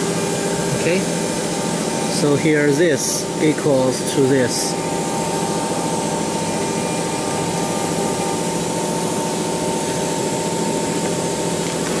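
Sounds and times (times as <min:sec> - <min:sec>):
machinery hum and hiss: 0:00.0 - 0:12.0
thin machine whine: 0:00.0 - 0:12.0.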